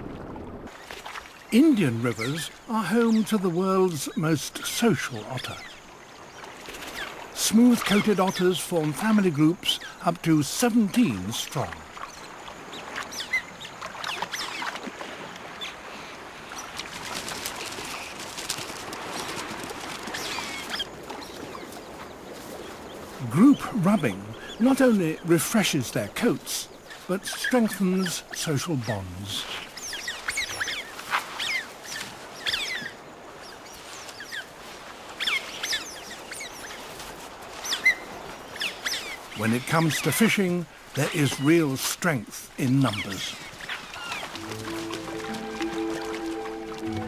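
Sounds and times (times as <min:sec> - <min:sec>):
faint steady hiss: 0:00.6 - 0:47.0.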